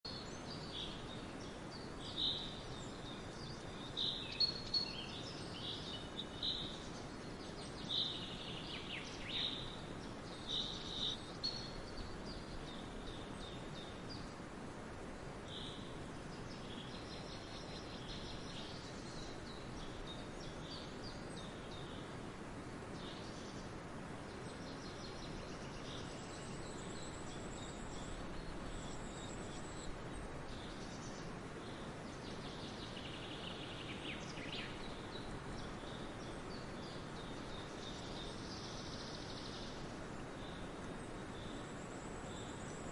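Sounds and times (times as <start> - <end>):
outdoor background noise: 0.0 - 42.9
birds chirping: 0.1 - 22.2, 22.8 - 42.9.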